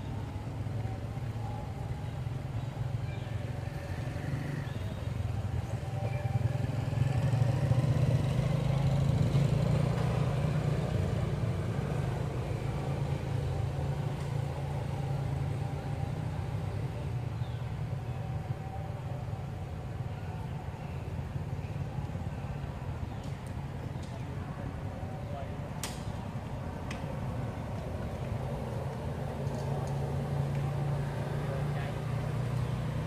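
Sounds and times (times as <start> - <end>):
passing vehicle engine hum: 0.0 - 33.0.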